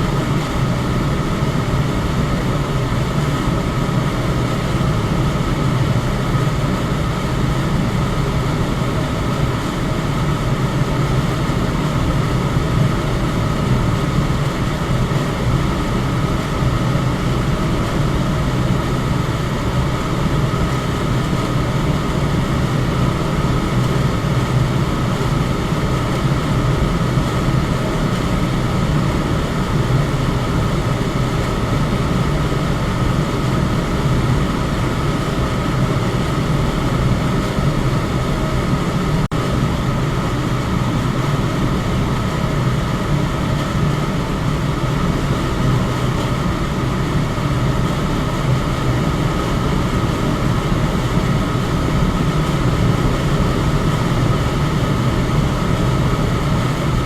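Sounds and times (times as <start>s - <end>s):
electric fan whooshing: 0.0s - 57.0s.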